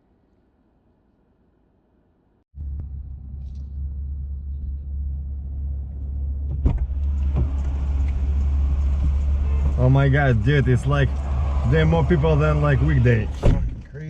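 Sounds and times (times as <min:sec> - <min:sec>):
car driving rumble: 0:02.6 - 0:14.0.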